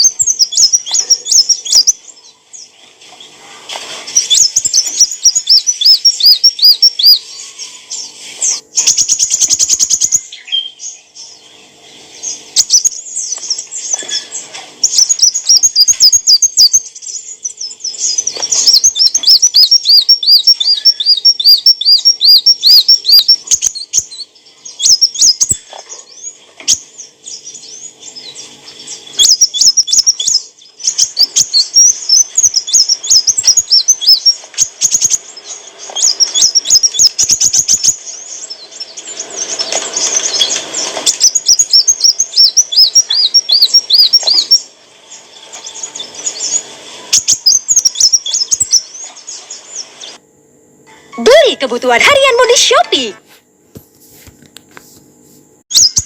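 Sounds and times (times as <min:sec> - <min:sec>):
sunbird chittering song: 0:00.0 - 0:03.4, 0:04.0 - 0:50.2, 0:55.7 - 0:56.0.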